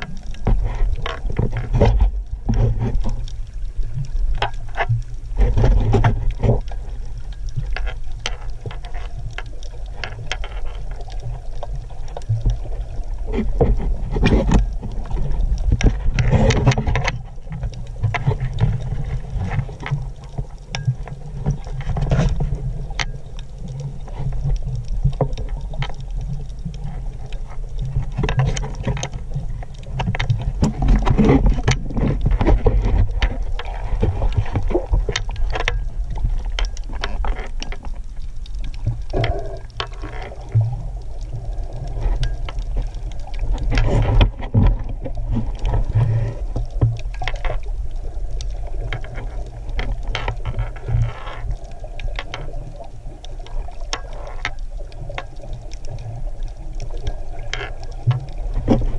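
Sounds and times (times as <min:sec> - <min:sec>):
sharp underwater clicks: 0:00.0 - 0:58.9
underwater rumble of moving water: 0:00.0 - 0:58.9.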